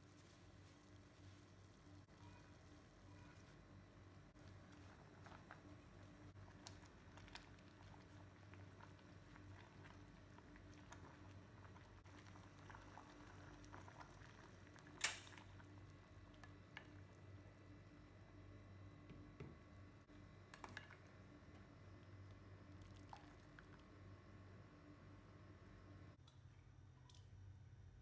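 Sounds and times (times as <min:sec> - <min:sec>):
pot simmering with bubbling: 0:00.0 - 0:26.2
low steady hum: 0:00.0 - 0:28.0.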